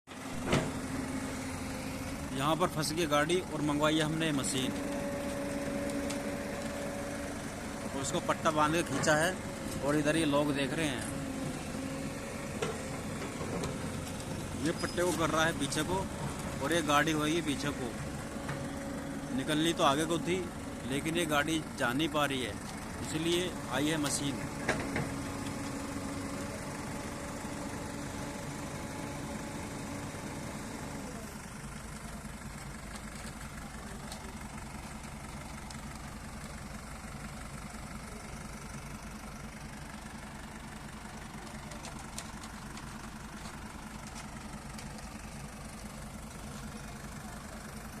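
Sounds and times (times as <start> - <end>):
diesel engine running: 0.1 - 48.0.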